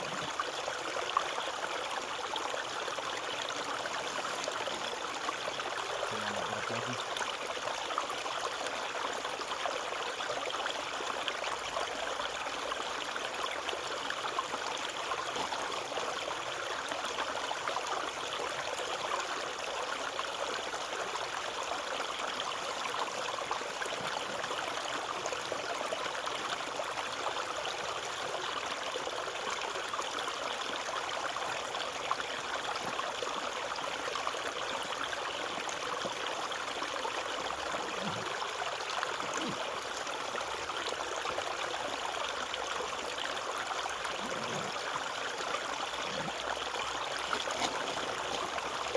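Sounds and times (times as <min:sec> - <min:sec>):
stream babbling over stones: 0:00.0 - 0:48.9.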